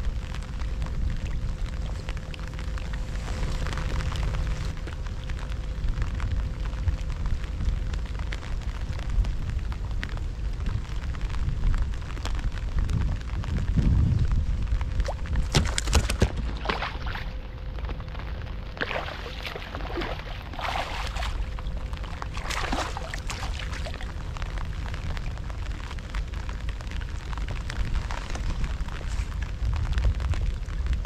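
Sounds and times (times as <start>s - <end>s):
heavy rain pattering: 0.0s - 31.0s
low rumble: 0.0s - 31.0s.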